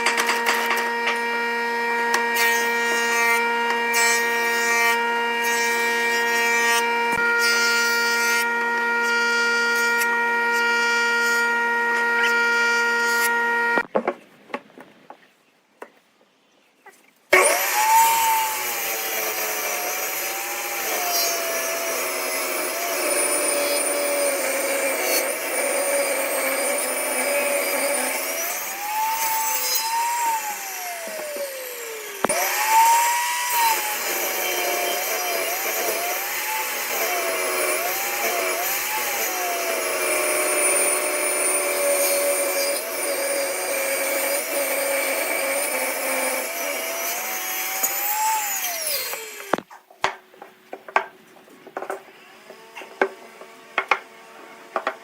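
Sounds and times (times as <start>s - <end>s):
power tool cutting wood: 0.0s - 13.9s, 17.3s - 49.8s, 51.8s - 55.0s.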